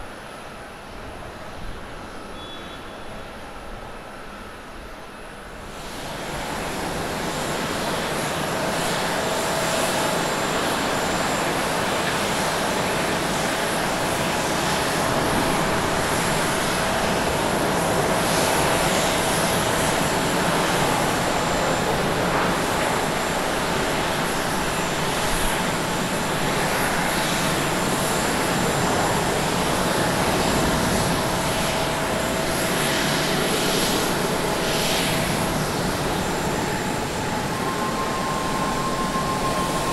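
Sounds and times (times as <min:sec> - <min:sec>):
faint engine whine: 0:00.0 - 0:39.9
jet engines at takeoff thrust: 0:00.0 - 0:39.9.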